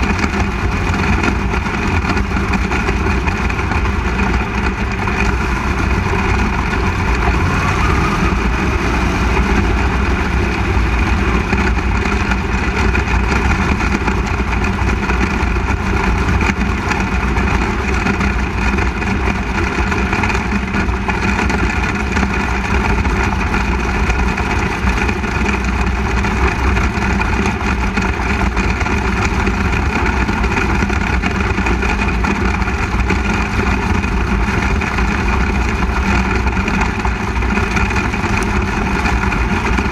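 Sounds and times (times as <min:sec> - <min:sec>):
other race car engines: 0:00.0 - 0:39.9
race car engine running: 0:00.0 - 0:39.9.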